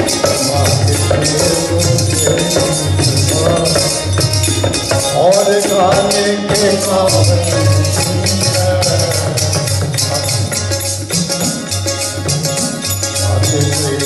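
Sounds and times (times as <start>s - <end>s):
man singing: 0.0s - 11.6s, 13.0s - 14.0s
shaker rhythm: 0.0s - 14.0s.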